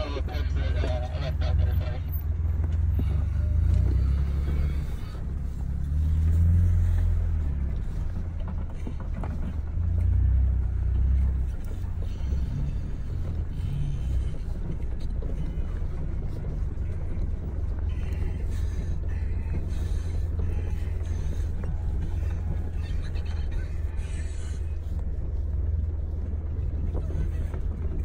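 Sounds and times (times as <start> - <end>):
off-road vehicle engine rumbling: 0.0 - 28.0.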